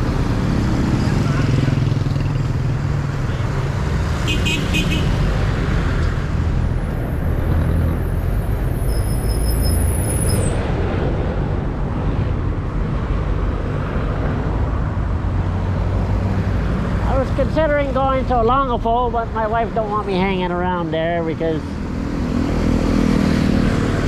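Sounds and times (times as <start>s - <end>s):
road traffic passing: 0.0s - 24.0s.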